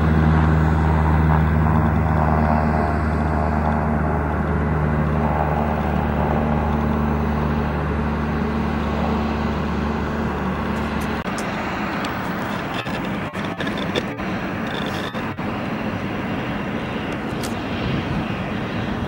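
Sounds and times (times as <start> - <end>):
engine running with deep hum: 0.0 - 19.0.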